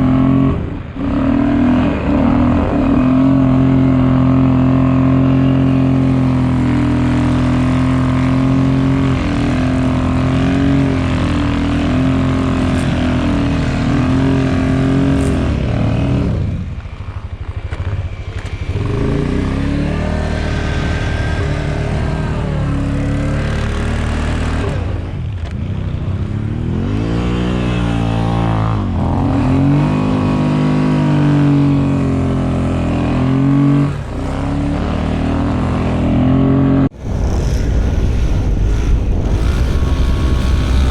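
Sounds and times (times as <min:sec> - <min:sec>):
atv engines revving: 0:00.0 - 0:40.9.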